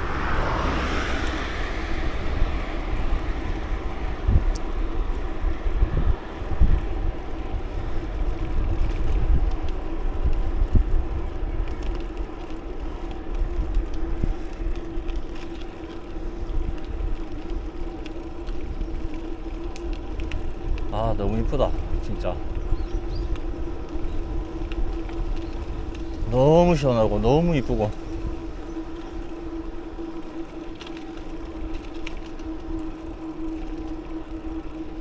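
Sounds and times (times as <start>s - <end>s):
bicycle ride hum: 0.0s - 35.0s
wind buffeting microphone: 0.0s - 35.0s.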